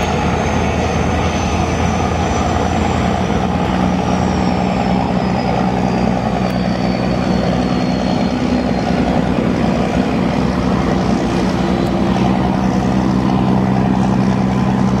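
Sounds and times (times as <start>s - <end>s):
churning wake rushing: 0.0s - 15.0s
ferry diesel engines droning: 0.0s - 15.0s.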